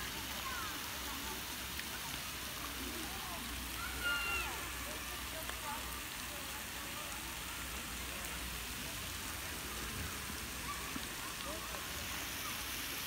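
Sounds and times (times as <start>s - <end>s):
fountain water splashing into pond: 0.0s - 13.0s.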